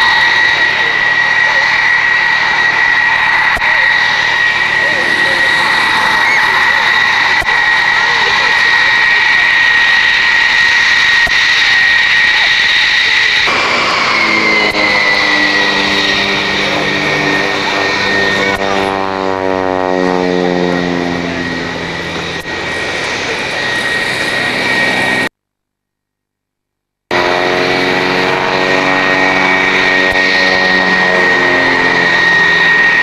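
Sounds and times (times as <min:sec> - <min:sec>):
biplane engine and propeller: 0:00.0 - 0:25.3, 0:27.1 - 0:33.0
jet engine high-pitched whine: 0:00.0 - 0:25.3, 0:27.1 - 0:33.0.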